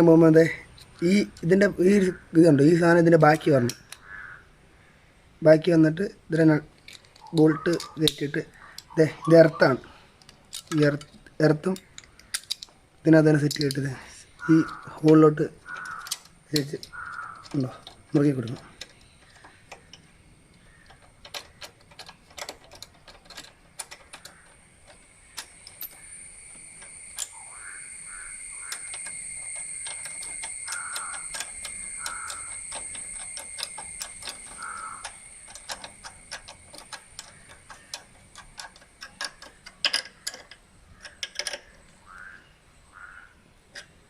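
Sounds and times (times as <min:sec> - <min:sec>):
spanner clicking on bolt: 0:00.8 - 0:04.1, 0:06.8 - 0:42.2, 0:43.7 - 0:44.0.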